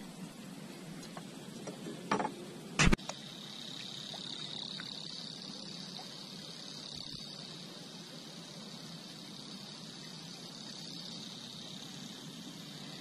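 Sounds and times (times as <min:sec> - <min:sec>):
high-pitched insect buzz: 0:02.1 - 0:13.0.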